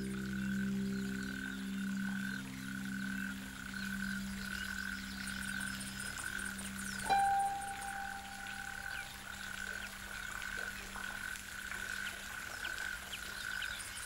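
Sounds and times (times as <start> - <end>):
frogs low hum: 0.0 - 14.0
frogs pulsing trill: 0.0 - 14.0.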